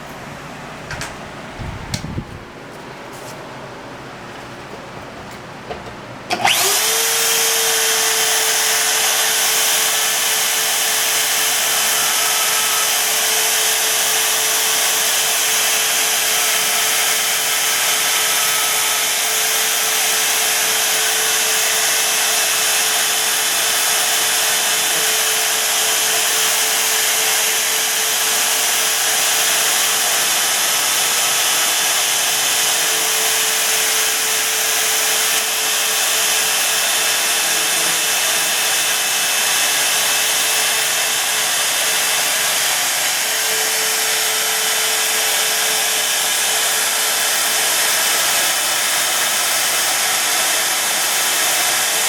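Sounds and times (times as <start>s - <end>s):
bandsaw motor running: 6.3s - 52.0s.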